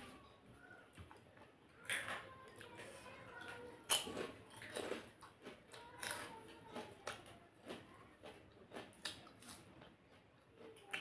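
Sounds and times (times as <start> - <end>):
soft chewing and mouth noises: 0.0 - 11.0.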